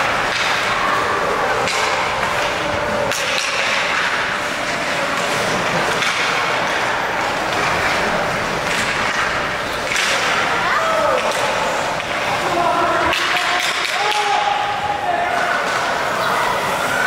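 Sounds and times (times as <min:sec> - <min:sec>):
hockey sticks and puck clacking: 0:00.0 - 0:17.0.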